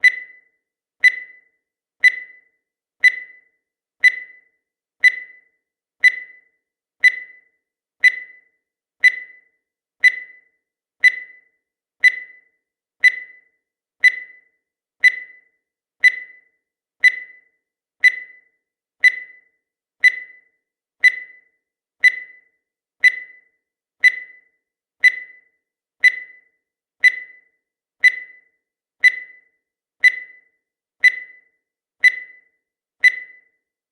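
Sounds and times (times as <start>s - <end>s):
high-pitched timer ticks: 0.0s - 33.9s.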